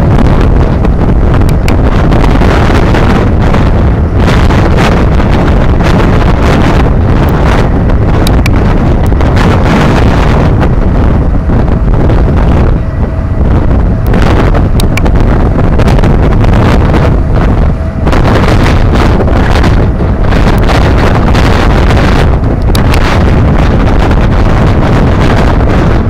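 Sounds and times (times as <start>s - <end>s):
ship engine: 0.0s - 26.0s
ship wake: 0.0s - 26.0s
wind buffeting microphone: 0.0s - 26.0s.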